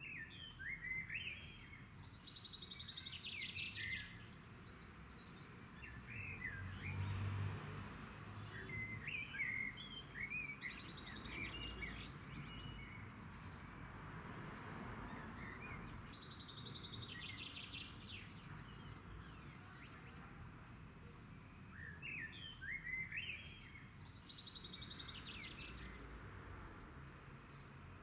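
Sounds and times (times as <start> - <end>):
songbirds singing: 0.0 - 28.0.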